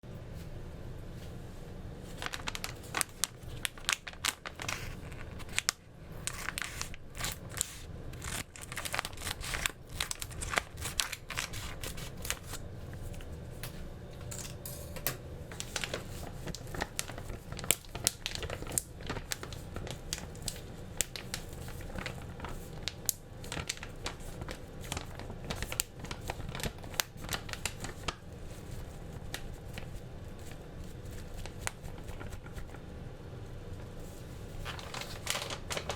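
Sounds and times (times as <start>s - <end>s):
steady low hum: 0.0s - 35.9s
rustling and crinkling: 0.4s - 14.6s, 15.5s - 32.9s, 33.7s - 35.9s.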